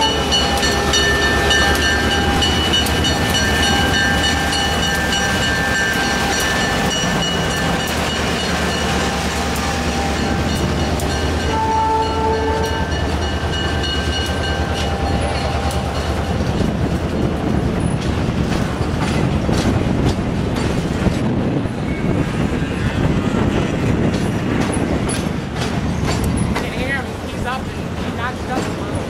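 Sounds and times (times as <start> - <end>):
railroad cars rumbling past: 0.0 - 29.0.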